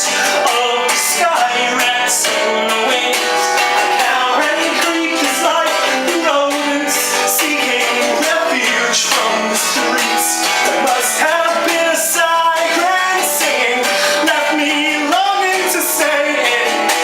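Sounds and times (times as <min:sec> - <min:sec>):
live song with guitar: 0:00.0 - 0:17.0.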